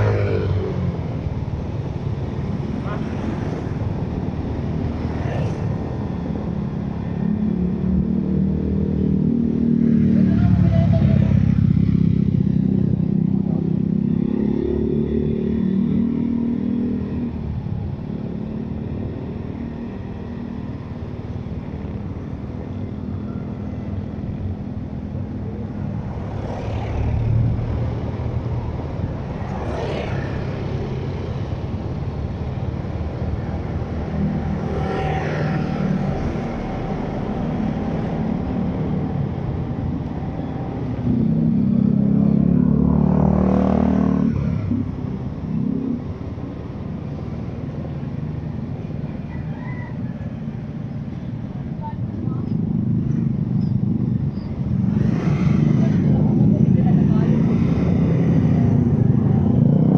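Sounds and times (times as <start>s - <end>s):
road noise: 0.0s - 59.9s
vehicle engine: 0.0s - 59.9s.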